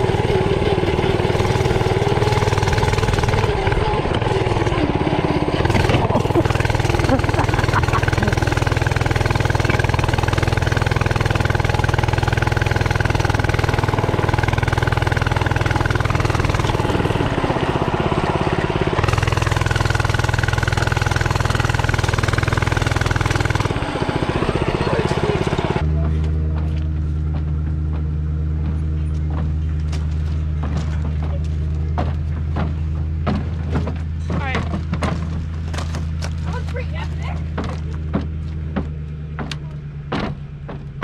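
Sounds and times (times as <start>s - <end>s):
low hum: 0.0s - 41.0s
small engine running: 0.0s - 41.0s.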